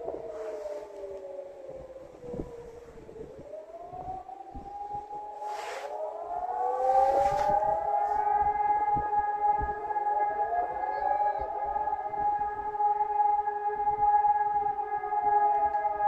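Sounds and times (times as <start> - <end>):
civil defense sirens: 0.0 - 16.0.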